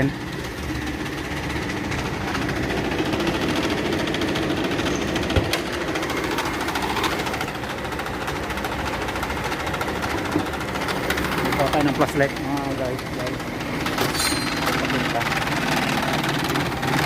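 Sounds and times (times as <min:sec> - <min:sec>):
car engine running: 0:00.0 - 0:17.0
cooling fan rattling: 0:00.0 - 0:17.0.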